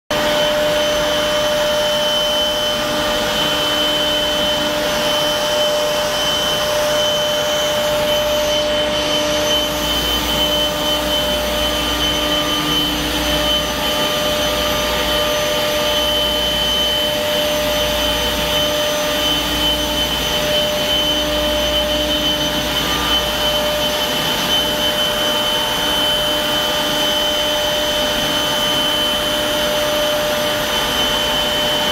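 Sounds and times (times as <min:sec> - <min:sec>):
industrial blower whining: 0:00.1 - 0:31.9.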